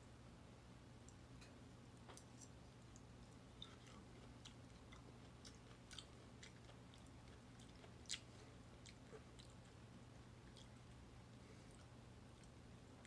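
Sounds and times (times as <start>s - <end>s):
low steady hum: 0.0s - 13.0s
person chewing softly: 1.0s - 13.0s.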